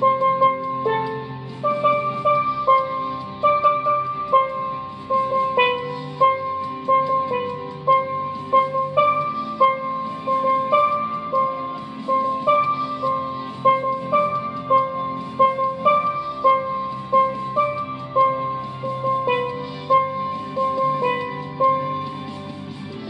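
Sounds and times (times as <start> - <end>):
steel pan melody: 0.0 - 23.0.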